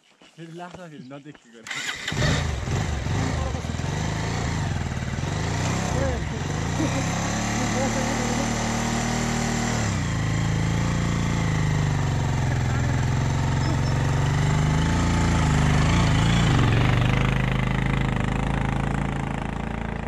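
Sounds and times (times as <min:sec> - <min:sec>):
motorcycle engine labouring uphill: 0:01.6 - 0:20.0.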